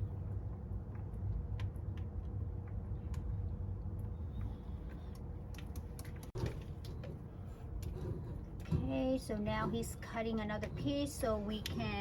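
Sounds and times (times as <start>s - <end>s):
faint hum: 0.0s - 12.0s
low steady rumble: 0.0s - 12.0s.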